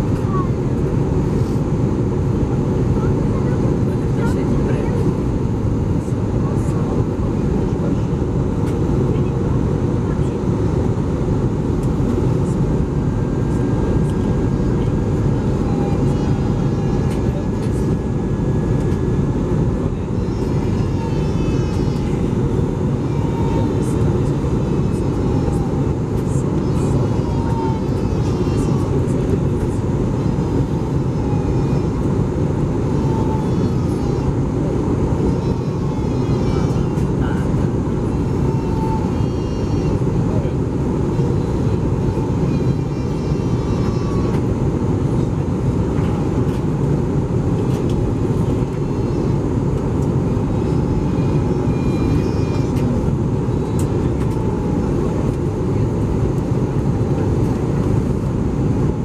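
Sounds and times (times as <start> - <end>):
airplane cabin engine and airflow rush: 0.0 - 59.0.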